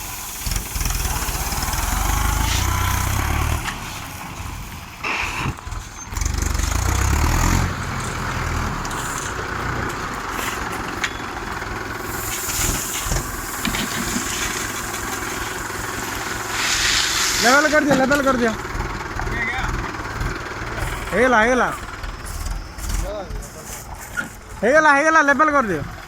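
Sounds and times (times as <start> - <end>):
tractor diesel engine rumble: 0.0 - 26.0.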